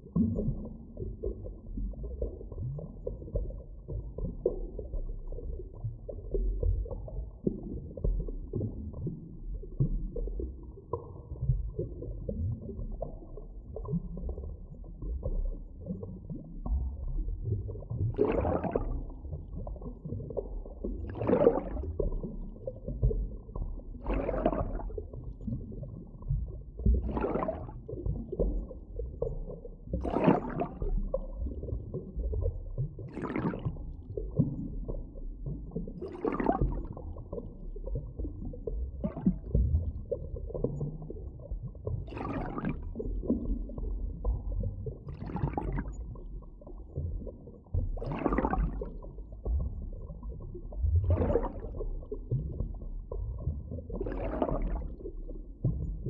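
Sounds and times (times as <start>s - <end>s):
gurgling water swell: 0.0s - 56.0s
underwater low rumble: 0.0s - 56.0s.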